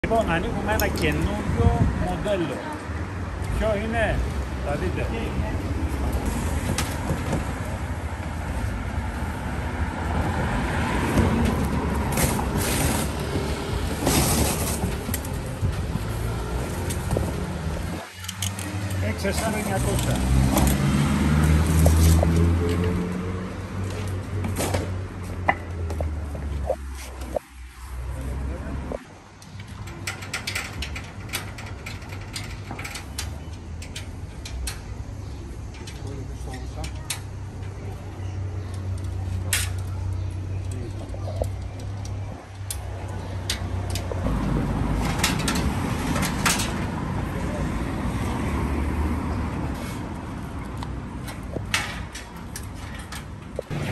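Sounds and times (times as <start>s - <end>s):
low rumble of street traffic: 0.0s - 53.9s.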